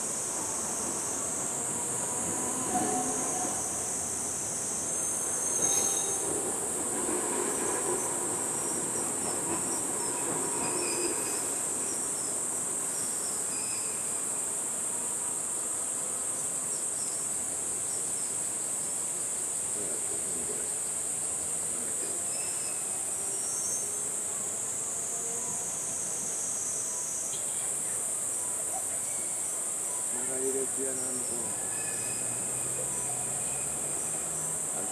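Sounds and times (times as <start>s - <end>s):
insect chorus buzzing: 0.0s - 34.9s.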